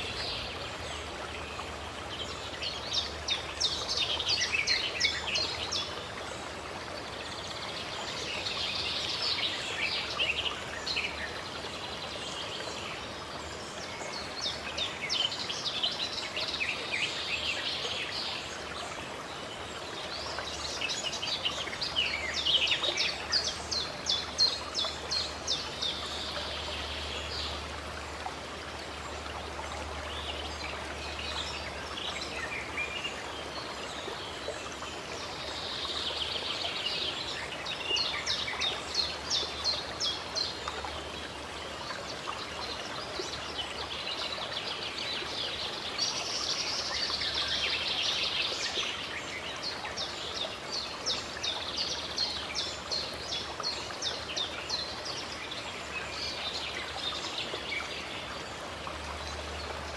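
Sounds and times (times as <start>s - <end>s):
running water: 0.0s - 59.9s
songbirds chirping and trilling: 0.0s - 59.9s.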